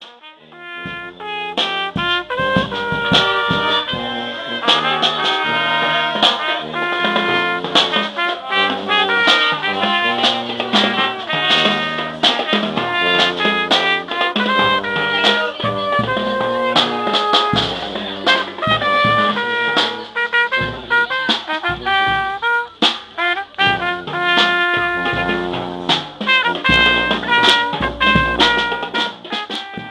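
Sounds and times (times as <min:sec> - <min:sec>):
brass band playing: 0:00.0 - 0:29.9
drum strikes: 0:00.8 - 0:29.9.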